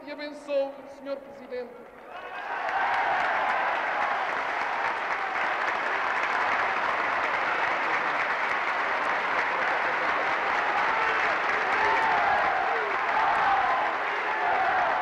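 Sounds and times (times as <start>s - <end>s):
large crowd applauding: 2.0s - 15.0s.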